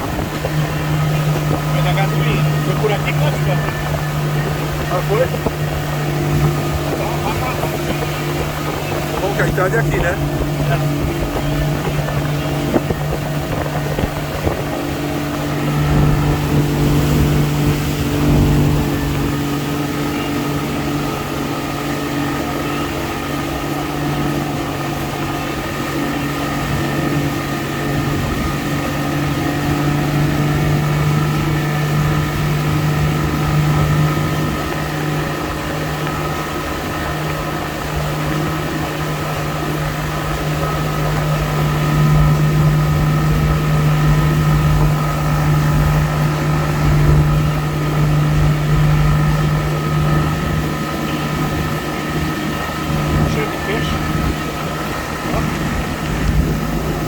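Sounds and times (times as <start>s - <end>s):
motorboat engine running: 0.0s - 57.0s
water wash around hull: 0.0s - 57.0s
wind: 0.0s - 57.0s.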